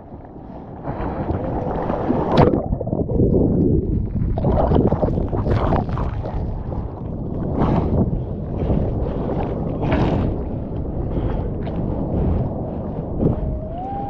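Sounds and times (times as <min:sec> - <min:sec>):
ocean water churning: 0:00.0 - 0:14.0.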